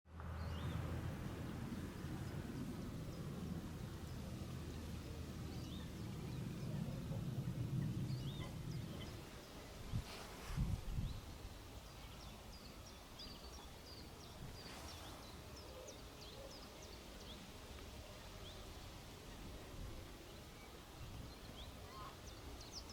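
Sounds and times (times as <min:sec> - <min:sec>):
birds chirping: 0:01.6 - 0:22.9.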